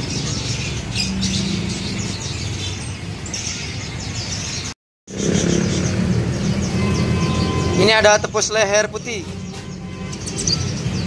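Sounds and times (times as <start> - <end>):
songbirds chirping and twittering: 0.0 - 11.0.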